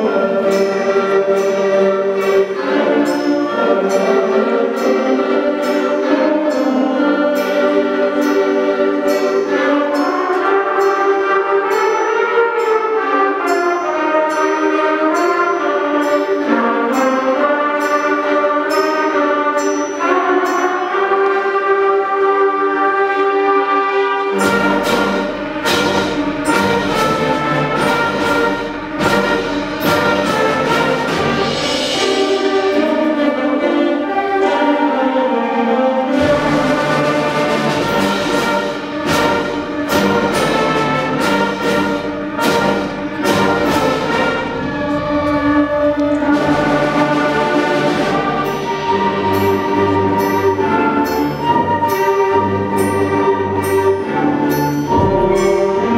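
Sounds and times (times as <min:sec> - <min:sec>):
concert band playing: 0:00.0 - 0:55.9.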